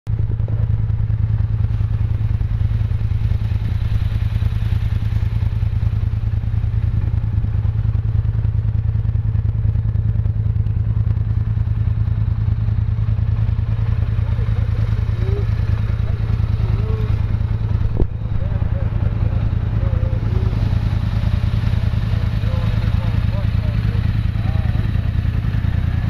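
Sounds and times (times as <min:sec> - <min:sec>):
off-road vehicle engine droning: 0:00.1 - 0:26.0.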